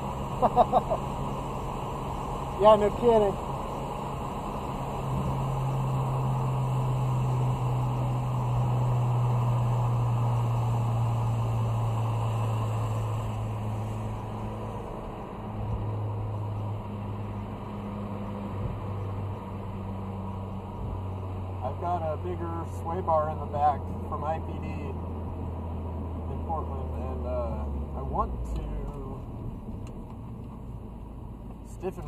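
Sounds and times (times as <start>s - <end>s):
car engine drone: 0.0s - 32.0s
tyre and road noise: 0.0s - 32.0s.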